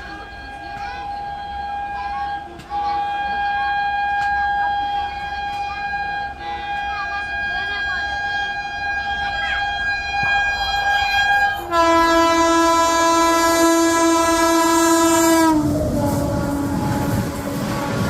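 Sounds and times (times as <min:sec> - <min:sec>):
locomotive horn: 0:00.0 - 0:18.0
train coaches rumbling and clattering: 0:00.0 - 0:18.0.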